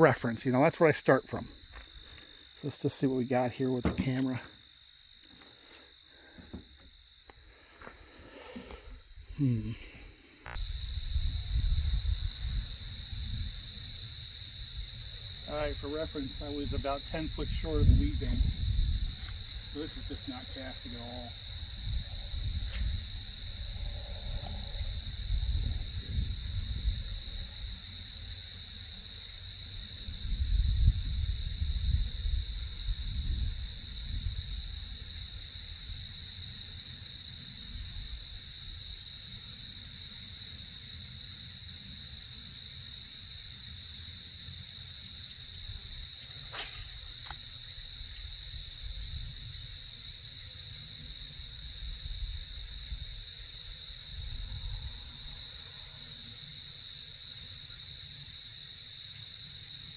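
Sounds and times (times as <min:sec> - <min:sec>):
insects trilling: 0:00.0 - 0:59.9
pulsing insect chirp: 0:00.0 - 0:59.9.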